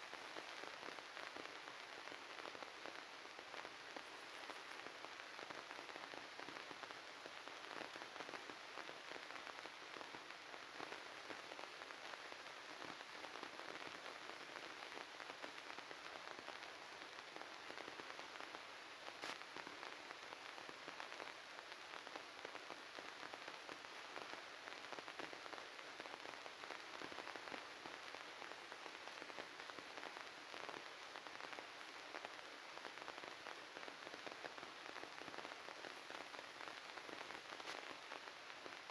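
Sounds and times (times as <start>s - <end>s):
crackling static hiss: 0.0s - 38.9s.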